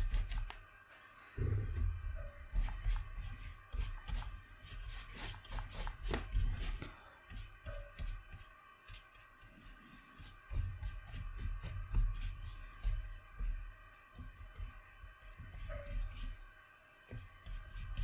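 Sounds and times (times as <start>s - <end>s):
brush dabbing on paper: 0.0s - 0.6s, 1.9s - 18.0s.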